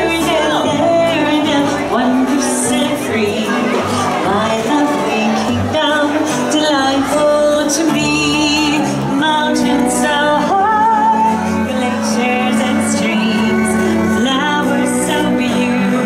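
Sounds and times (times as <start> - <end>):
instrumental accompaniment: 0.0 - 16.0
woman singing with vibrato: 0.0 - 16.0.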